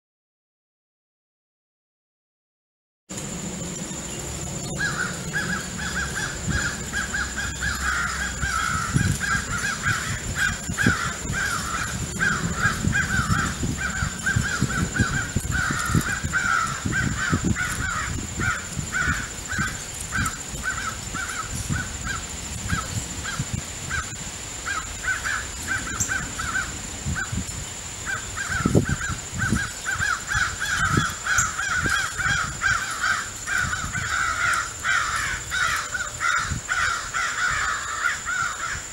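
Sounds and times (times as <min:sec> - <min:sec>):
crows cawing: 0:04.6 - 0:27.4, 0:28.0 - 0:38.9.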